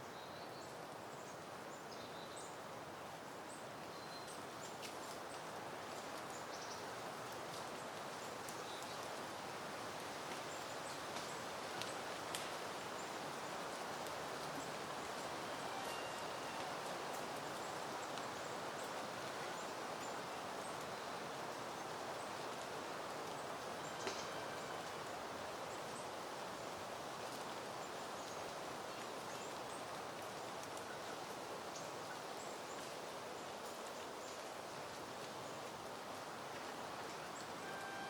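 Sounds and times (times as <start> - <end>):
wind rustling through plants: 0.0 - 38.0.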